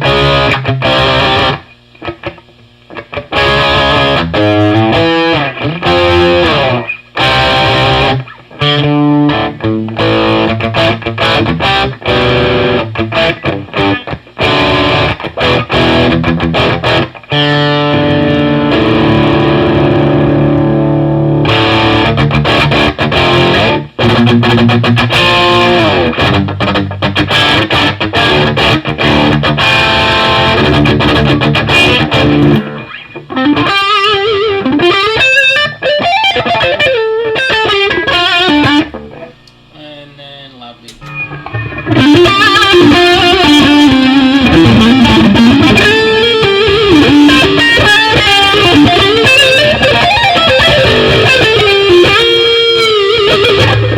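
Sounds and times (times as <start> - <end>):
overdriven electric guitar: 0.0 - 39.7, 40.8 - 53.9.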